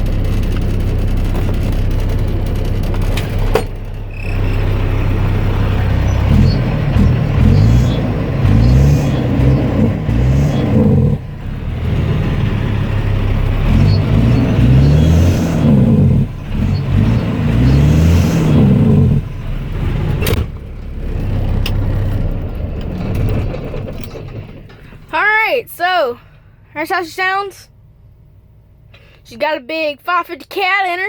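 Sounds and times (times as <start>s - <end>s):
diesel truck engine revving: 0.0s - 25.3s.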